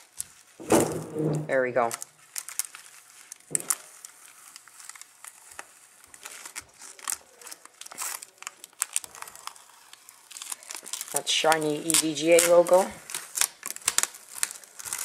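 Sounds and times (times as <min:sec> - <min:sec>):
bubble wrap rustling: 0:00.0 - 0:15.0
plastic film crinkling: 0:00.0 - 0:15.0.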